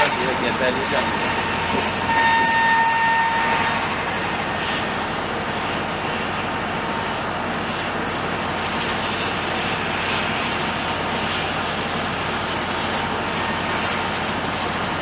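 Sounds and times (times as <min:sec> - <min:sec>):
construction machinery running: 0:00.0 - 0:15.0
high whine: 0:00.0 - 0:15.0.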